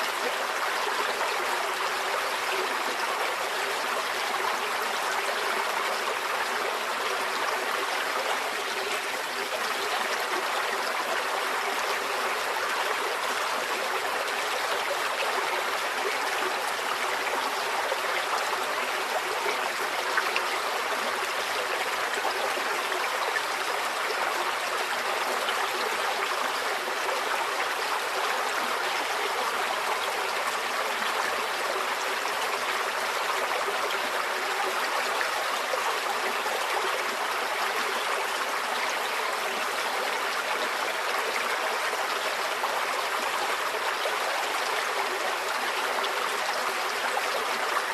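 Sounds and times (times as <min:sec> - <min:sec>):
stream flowing over stones: 0:00.0 - 0:47.9.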